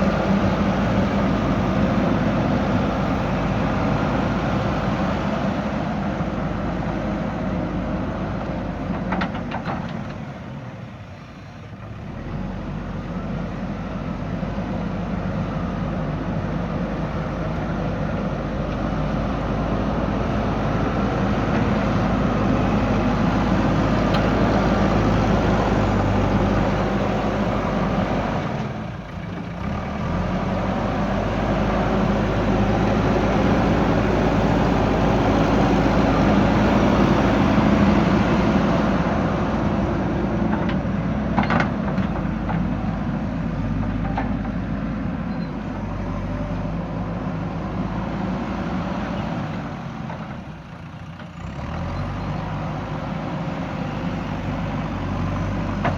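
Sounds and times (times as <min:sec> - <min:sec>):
diesel engine running under load: 0:00.0 - 0:55.9.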